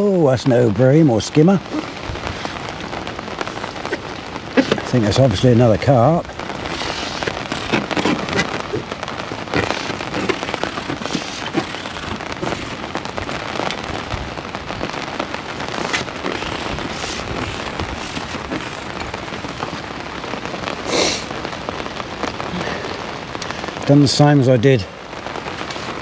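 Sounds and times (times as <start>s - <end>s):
rain on lake surface: 0.0s - 26.0s
rain on umbrella canopy: 0.0s - 26.0s.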